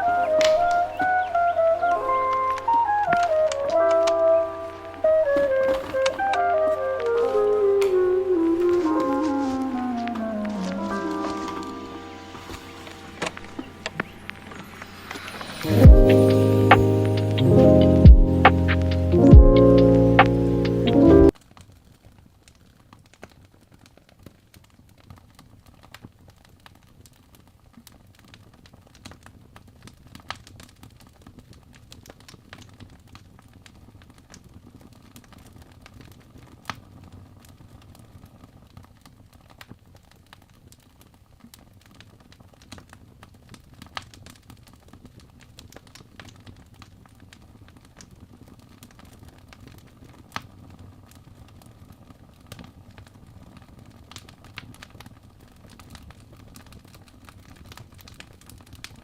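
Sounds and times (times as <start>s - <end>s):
low rumble of flames: 0.0s - 11.7s, 13.2s - 59.0s
fire pops and snaps: 0.0s - 11.8s, 12.4s - 59.0s.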